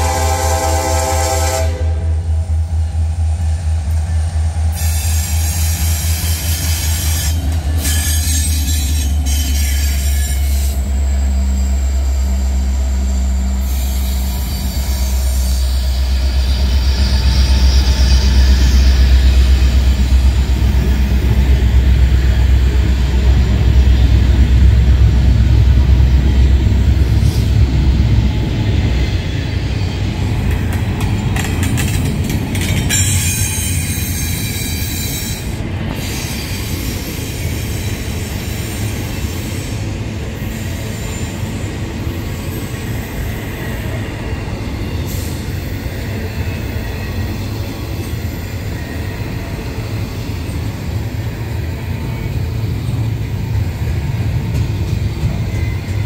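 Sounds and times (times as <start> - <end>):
diesel locomotive engine rumble: 0.0 - 56.0
freight cars rolling on rails: 2.8 - 56.0.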